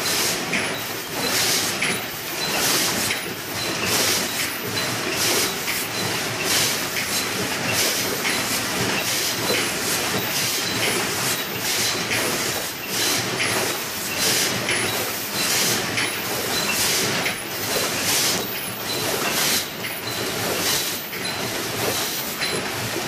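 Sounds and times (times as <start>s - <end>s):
machine clatter: 0.0s - 23.0s
machine mechanical din: 0.0s - 23.0s.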